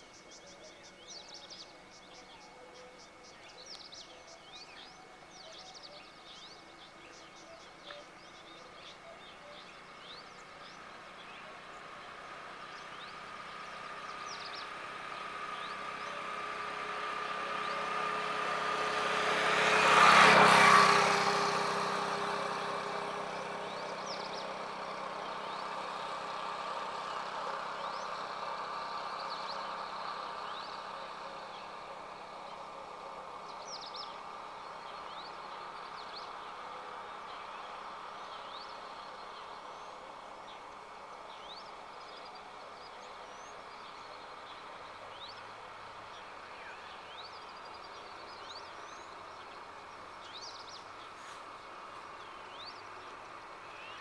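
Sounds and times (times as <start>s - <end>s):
small birds chirping: 0.0s - 54.0s
road vehicle passing: 3.2s - 54.0s.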